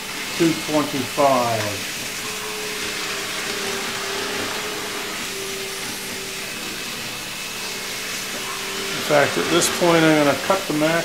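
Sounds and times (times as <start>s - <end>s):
model trains whirring on rails: 0.0s - 11.0s.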